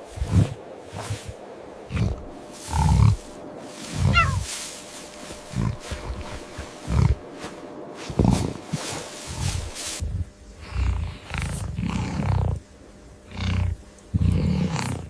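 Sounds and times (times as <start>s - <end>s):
tiger growling: 0.0s - 4.5s, 5.1s - 15.0s.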